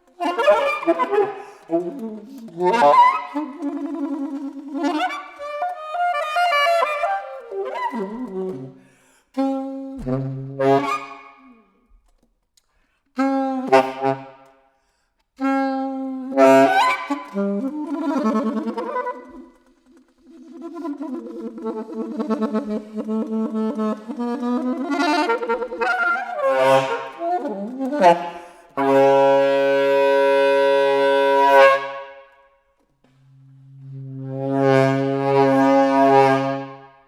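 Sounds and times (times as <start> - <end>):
solo saxophone: 0.0 - 12.3, 13.1 - 37.0.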